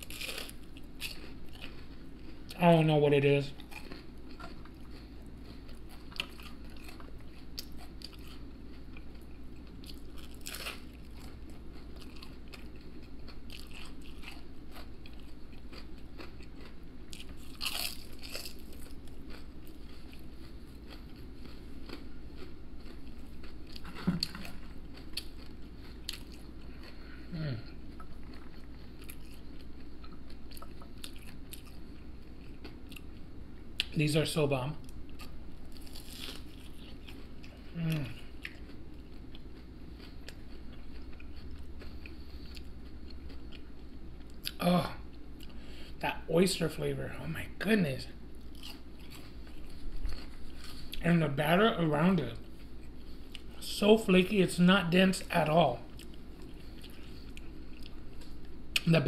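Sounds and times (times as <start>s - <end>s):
chewing crunchy fried food: 0.0s - 34.0s, 34.8s - 46.0s, 48.3s - 51.4s, 52.0s - 53.8s, 55.4s - 59.0s.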